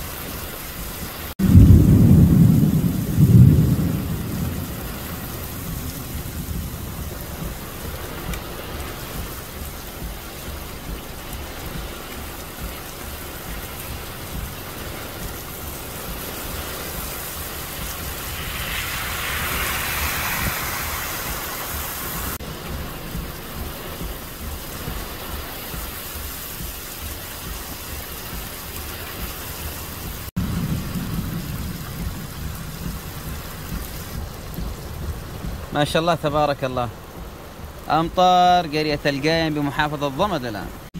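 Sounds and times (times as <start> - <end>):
heavy rain falling: 0.0 - 40.9
low rumble: 1.4 - 37.9.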